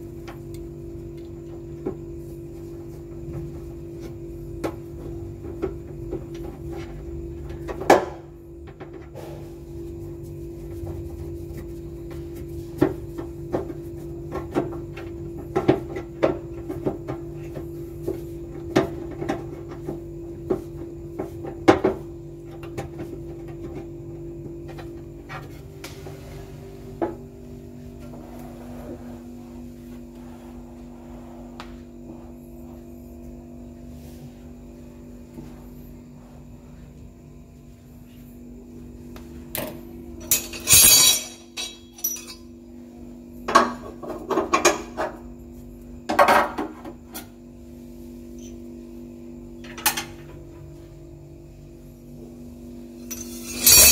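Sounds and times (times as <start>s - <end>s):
electrical hum: 0.0s - 53.9s.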